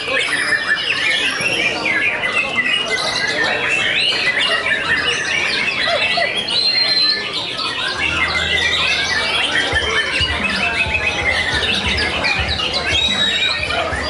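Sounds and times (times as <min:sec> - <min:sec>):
chorus of birds singing: 0:00.0 - 0:14.0.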